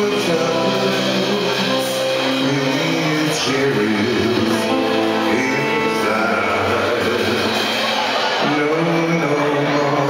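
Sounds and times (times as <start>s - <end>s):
person singing: 0.0s - 10.0s
rockabilly band playing: 0.0s - 10.0s.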